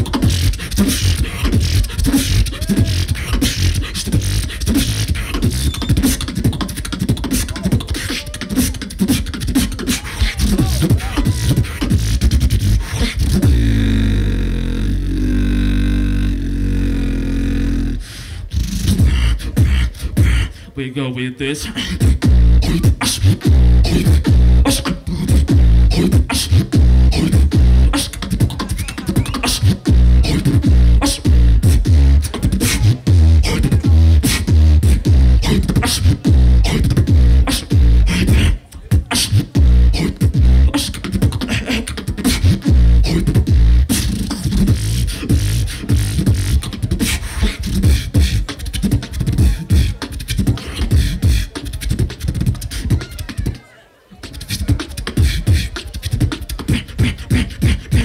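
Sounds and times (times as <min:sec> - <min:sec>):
beatboxing through a speaker system: 0:00.0 - 0:58.0.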